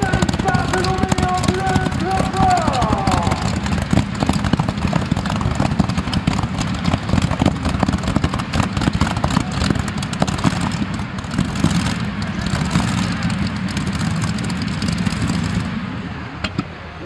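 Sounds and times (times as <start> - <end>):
exhaust crackle: 0.0 - 16.8
tractor engines running loud: 0.0 - 17.0.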